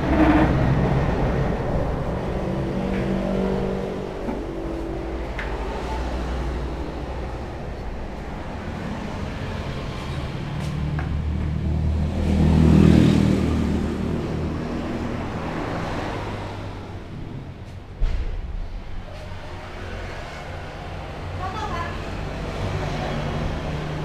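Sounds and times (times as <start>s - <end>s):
vehicle engine passing: 0.0s - 24.0s.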